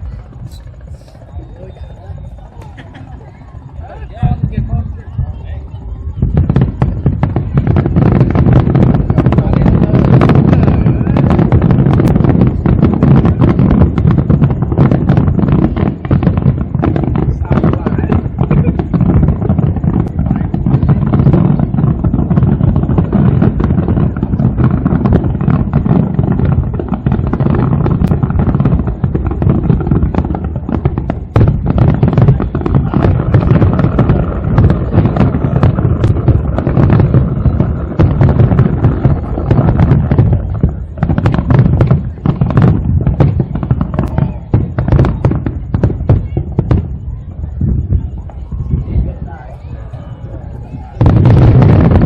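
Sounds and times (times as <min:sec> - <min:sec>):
fireworks bursting and crackling: 0:00.0 - 0:52.0.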